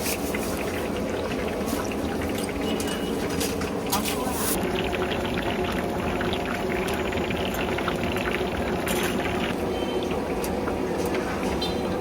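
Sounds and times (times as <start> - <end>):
hot oil sizzling: 0.0 - 10.4.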